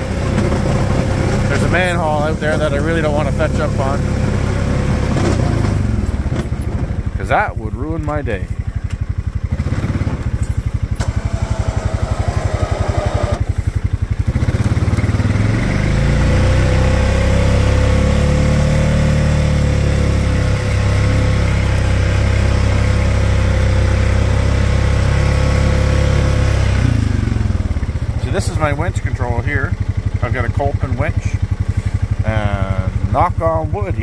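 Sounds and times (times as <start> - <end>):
atv engine running: 0.0 - 34.0.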